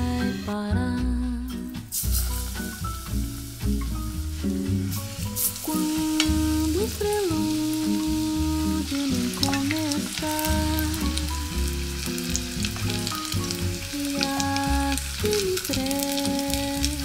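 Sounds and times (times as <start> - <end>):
background music: 0.0 - 17.0
oil sizzling and crackling: 1.7 - 17.0.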